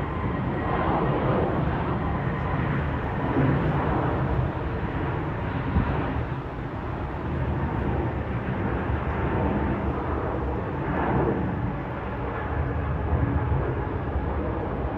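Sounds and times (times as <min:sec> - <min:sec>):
jet airliner noise: 0:00.0 - 0:14.9.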